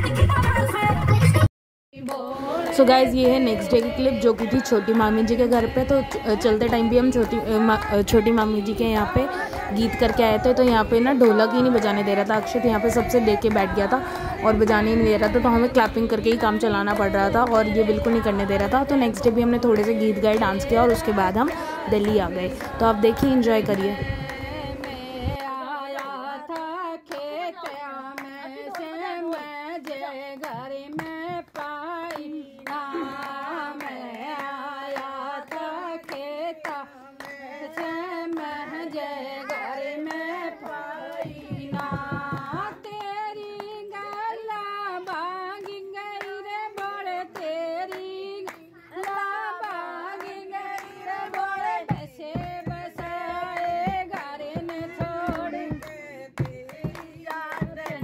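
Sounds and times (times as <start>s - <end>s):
hand claps: 2.0s - 58.0s
women singing folk song: 2.0s - 58.0s.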